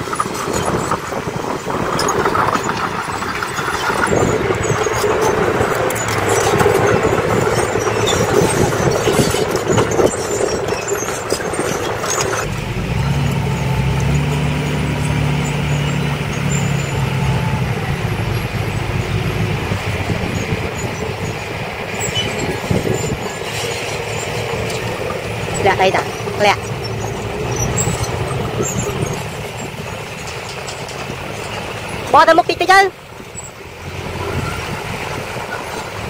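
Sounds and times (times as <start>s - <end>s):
clicking and clanking: 0.0s - 17.0s, 19.7s - 33.6s
bulldozer diesel engine running: 0.0s - 36.0s
dump truck diesel engine: 0.0s - 36.0s.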